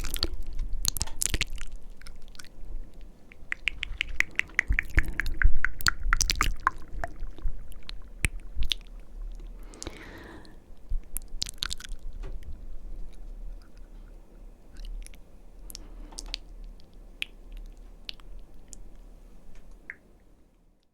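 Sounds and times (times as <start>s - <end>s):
wet tongue and lip clicks: 0.0s - 10.0s, 10.8s - 19.0s, 19.6s - 20.2s.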